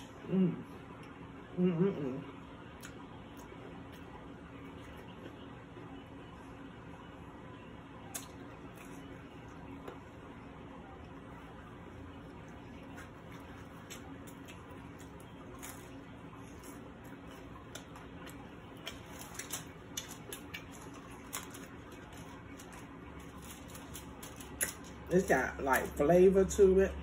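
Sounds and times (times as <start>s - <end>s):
person chewing bread: 0.0s - 6.6s, 8.0s - 26.0s
low room hum: 0.0s - 27.0s.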